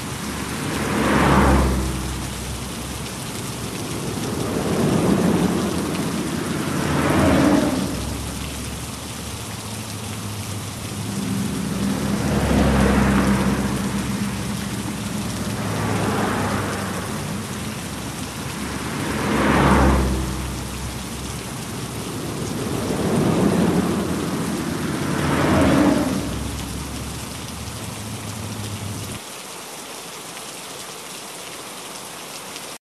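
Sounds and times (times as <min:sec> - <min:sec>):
heavy rain falling: 0:00.0 - 0:32.8.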